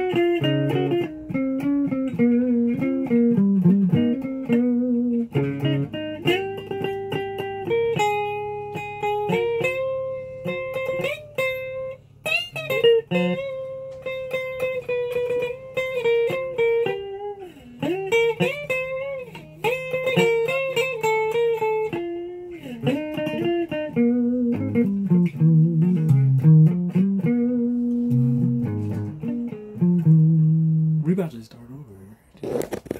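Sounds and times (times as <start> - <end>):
electric guitar melody: 0.0 - 31.2.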